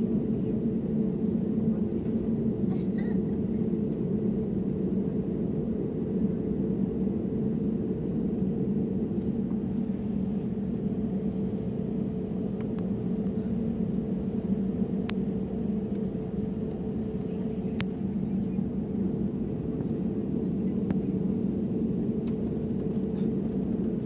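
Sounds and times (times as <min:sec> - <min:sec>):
jet engine hum: 0:00.0 - 0:24.0.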